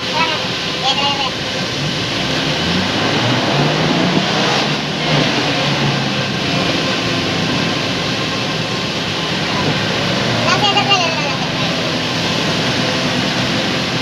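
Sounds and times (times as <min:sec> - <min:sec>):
car engine hum: 0:00.0 - 0:14.0
tyres hissing on wet road: 0:00.0 - 0:14.0.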